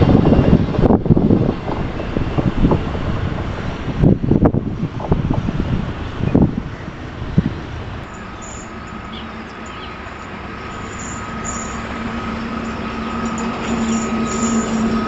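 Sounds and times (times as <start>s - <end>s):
train high whine: 0.0s - 15.0s
train low hum: 0.0s - 15.0s
train wheels rumbling: 0.0s - 15.0s.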